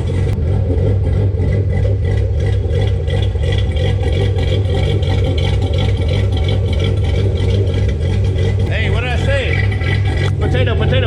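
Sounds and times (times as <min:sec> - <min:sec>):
car engine idling with choppy lope: 0:00.0 - 0:11.0.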